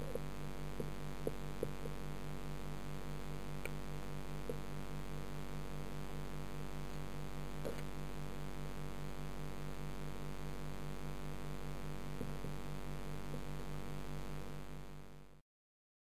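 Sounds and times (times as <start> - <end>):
aquarium filter pump hum: 0.0 - 15.4.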